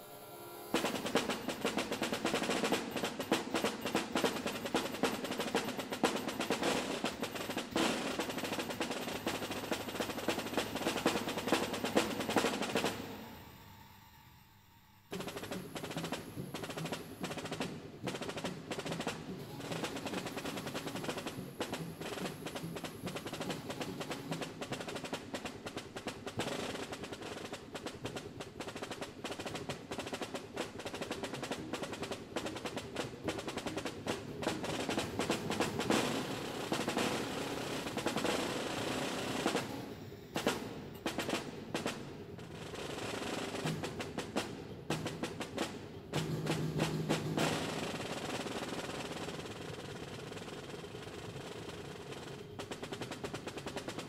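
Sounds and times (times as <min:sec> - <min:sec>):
snare drum roll: 0:00.7 - 0:13.8, 0:15.1 - 0:54.0.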